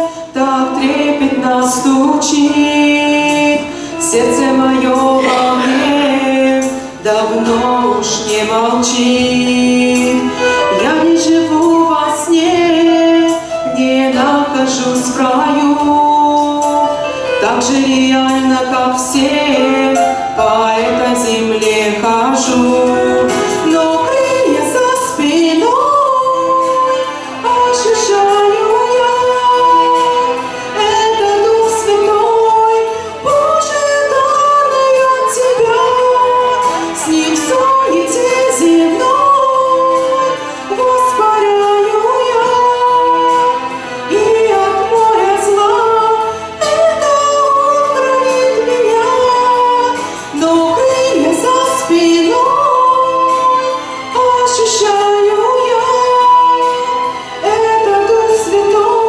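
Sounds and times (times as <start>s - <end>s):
musical accompaniment: 0.0s - 59.0s
woman singing worship song: 0.0s - 59.0s.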